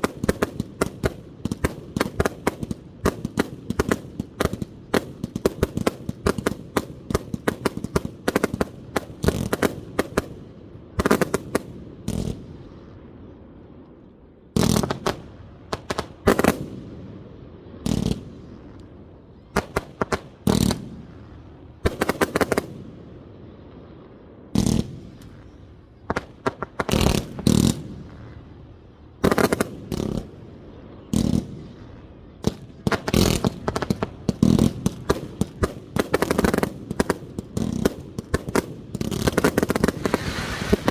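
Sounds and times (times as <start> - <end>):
fireworks heavy bangs: 0.0 - 12.8, 14.5 - 40.9
fireworks crackling volley: 0.0 - 40.9.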